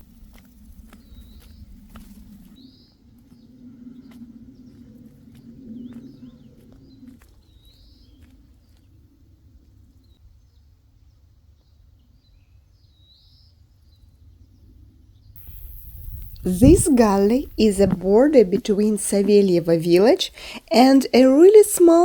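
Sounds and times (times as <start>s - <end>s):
faint low outdoor rumble: 0.0s - 12.2s, 14.1s - 22.0s.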